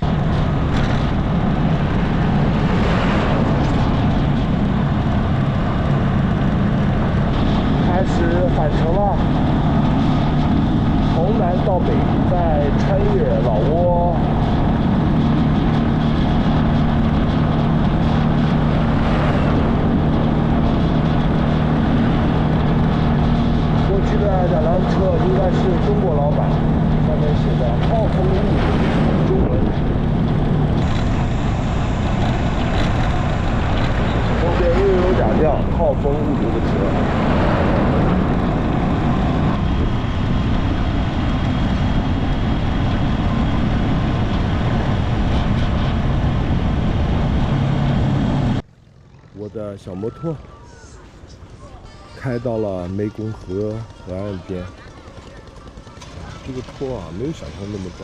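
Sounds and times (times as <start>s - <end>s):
motorbike engine cruising: 0.0s - 58.0s
wind and road rush: 0.0s - 58.0s.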